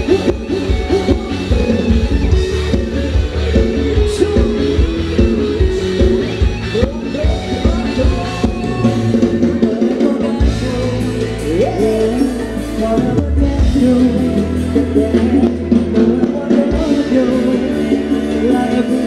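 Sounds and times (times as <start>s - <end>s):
live dance band music: 0.0s - 19.0s
person singing: 0.0s - 19.0s.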